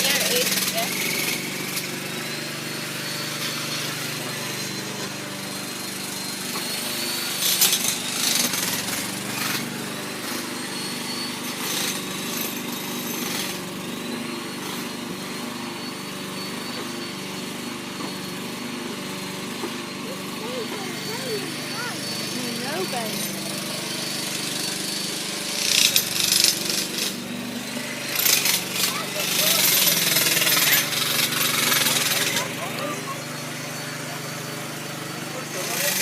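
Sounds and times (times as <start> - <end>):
engine running steadily: 0.0 - 36.0
harsh power tool noise: 0.0 - 36.0.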